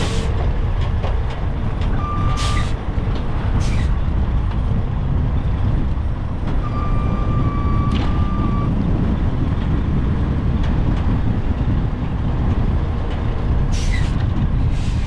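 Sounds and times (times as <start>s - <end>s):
truck engines running: 0.0s - 15.0s
wind buffeting microphone: 0.0s - 15.0s.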